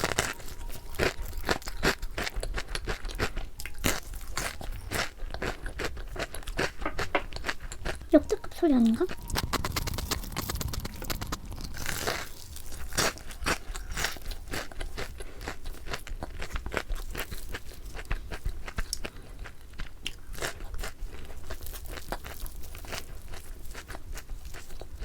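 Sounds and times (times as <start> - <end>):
crunching fried chicken: 0.0 - 25.0.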